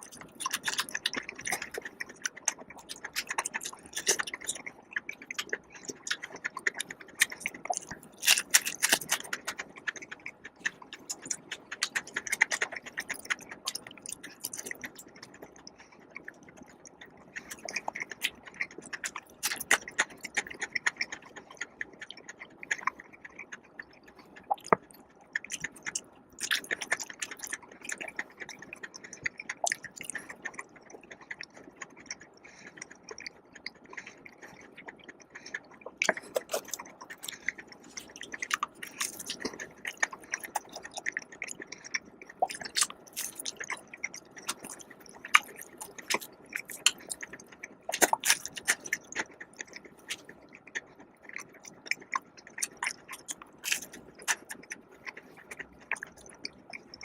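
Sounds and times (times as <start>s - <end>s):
chewing with crisp bites: 0.0s - 57.0s
wet mouth sounds: 0.0s - 57.0s.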